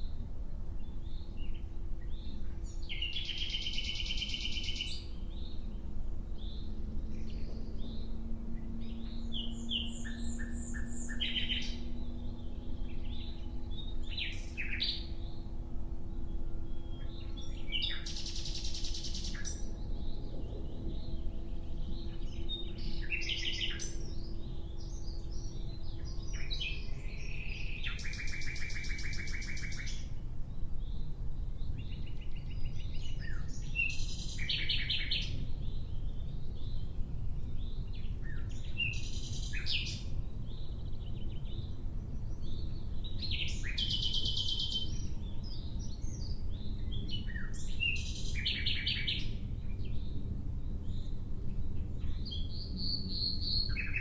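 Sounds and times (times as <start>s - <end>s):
steady low rumble: 0.0s - 54.0s
nightingale singing: 0.8s - 54.0s.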